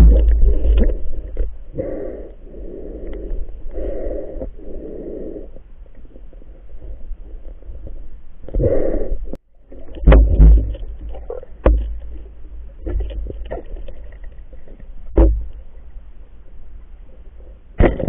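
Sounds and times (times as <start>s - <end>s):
underwater rumble of moving water: 0.0s - 18.0s.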